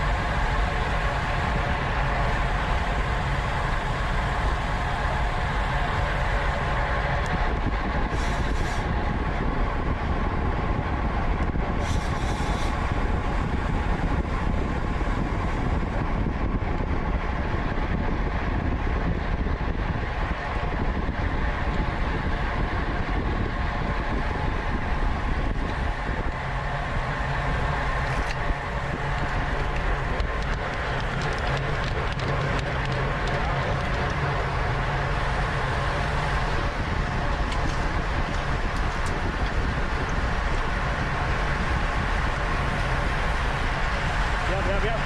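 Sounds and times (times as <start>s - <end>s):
low steady hum: 0.0s - 45.0s
wind rush on microphone: 0.0s - 45.0s.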